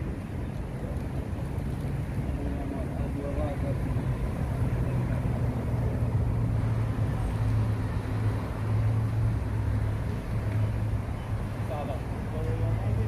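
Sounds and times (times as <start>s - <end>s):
low engine hum: 0.0s - 13.0s
street traffic noise: 0.0s - 13.0s.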